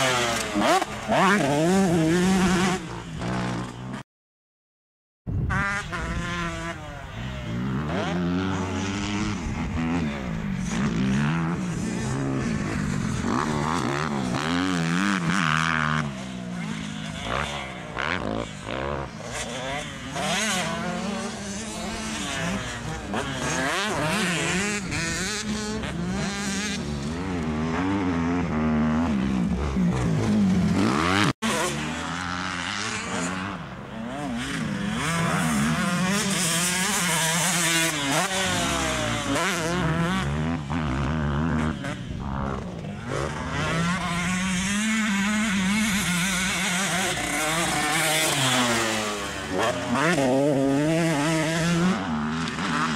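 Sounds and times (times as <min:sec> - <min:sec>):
motocross bike engine revving: 0:00.0 - 0:04.0, 0:05.5 - 0:52.9.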